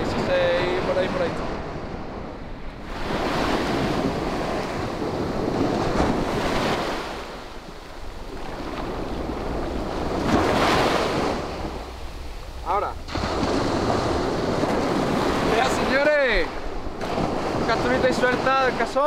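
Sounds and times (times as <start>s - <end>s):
surf washing up beach: 0.0s - 19.0s
wind on microphone: 0.0s - 19.0s.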